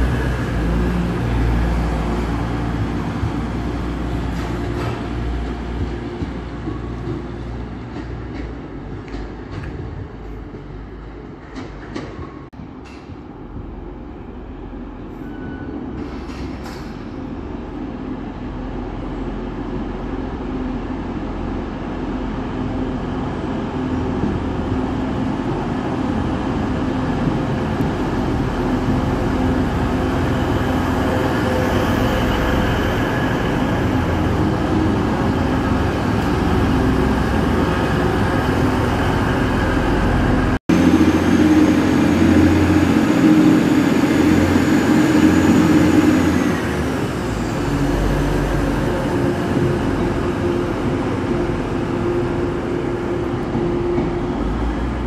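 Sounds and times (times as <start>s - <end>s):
train engine and wheels rumbling: 0.0s - 55.0s.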